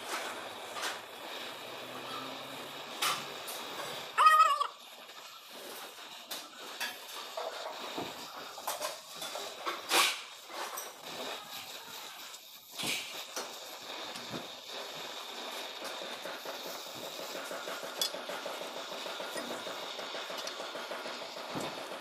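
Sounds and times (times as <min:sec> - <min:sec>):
welding torch flame hissing: 0:00.0 - 0:22.0.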